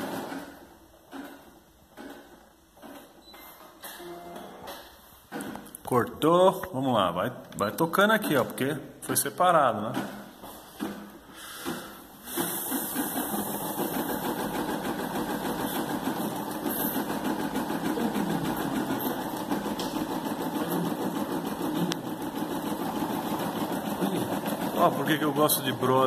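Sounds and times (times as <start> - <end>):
embroidery machine stitching: 0.0 - 5.7, 9.9 - 26.0.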